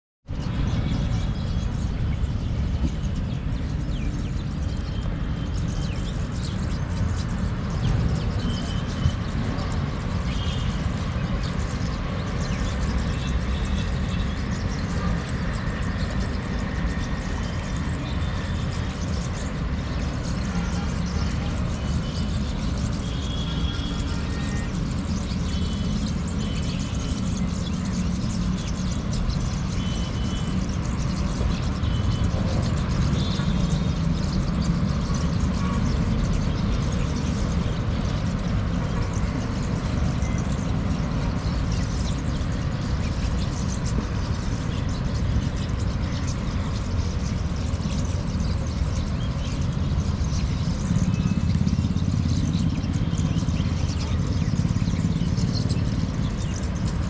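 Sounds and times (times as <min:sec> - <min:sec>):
road traffic rumble: 0:00.3 - 0:57.0.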